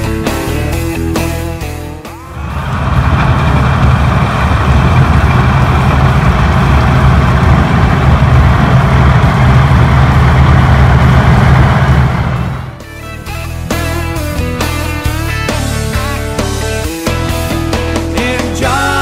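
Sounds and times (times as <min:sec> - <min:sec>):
heavy machinery engine humming: 0:00.0 - 0:19.0.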